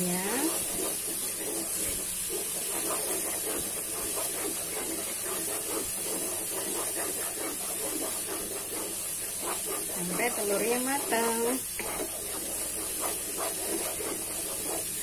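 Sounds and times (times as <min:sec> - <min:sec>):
paste and egg sizzling in a wok: 0:00.0 - 0:15.0
wooden spatula scraping a wok: 0:00.0 - 0:15.0.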